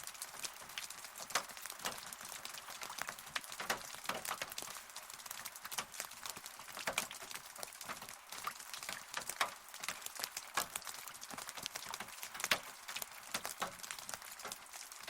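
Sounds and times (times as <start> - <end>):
rain hiss: 0.0 - 15.0
raindrops tapping: 0.0 - 15.0.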